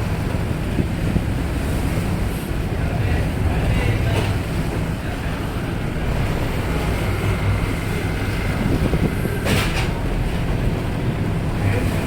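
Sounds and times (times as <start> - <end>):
ferry engines rumbling: 0.0 - 12.0
wind: 0.0 - 12.0.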